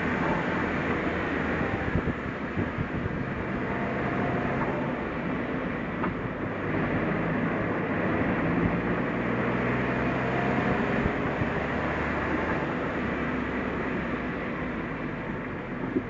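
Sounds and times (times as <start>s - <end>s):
car engine running: 0.0s - 16.0s
tyre and road noise: 0.0s - 16.0s.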